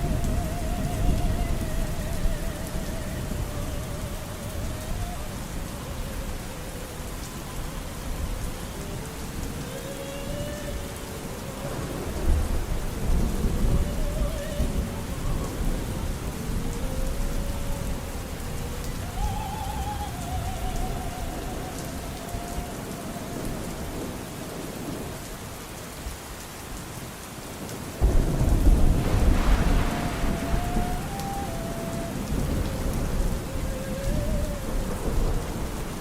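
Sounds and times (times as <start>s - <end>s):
thunder rumbling: 0.0s - 26.4s, 27.6s - 36.0s
faint opera singing: 0.0s - 36.0s
steady rain: 0.0s - 36.0s.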